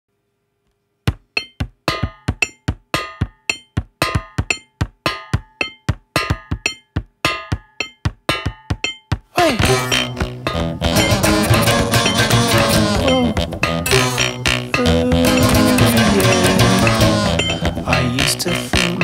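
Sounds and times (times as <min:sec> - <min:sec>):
rhythmic ringing percussion hits: 0:01.1 - 0:19.0
music track: 0:01.9 - 0:19.0.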